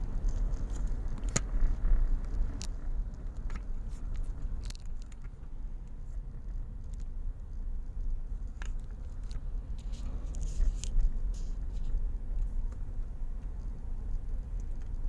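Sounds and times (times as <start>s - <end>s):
car engine and road rumble: 0.0s - 15.0s
light clicks and ticks: 0.0s - 15.0s.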